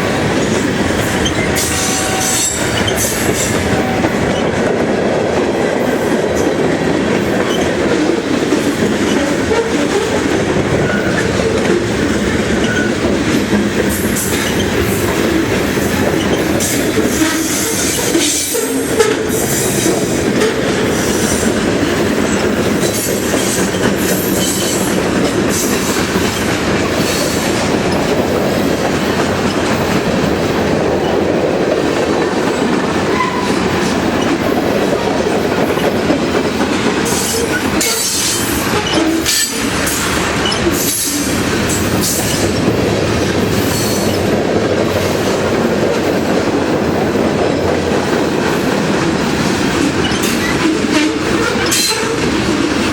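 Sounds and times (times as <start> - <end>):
train wheels rumbling on rails: 0.0 - 52.9
wheels clicking over rail joints: 0.0 - 52.9.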